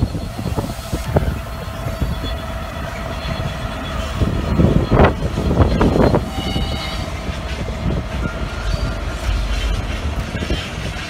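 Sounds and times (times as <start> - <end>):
diesel locomotive engine rumble and whine: 0.0 - 11.0.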